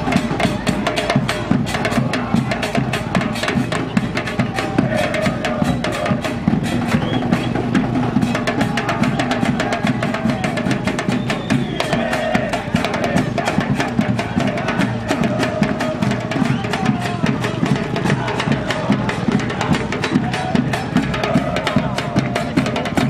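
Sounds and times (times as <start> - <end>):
fast drumming: 0.0 - 23.0
voices singing: 0.0 - 23.0.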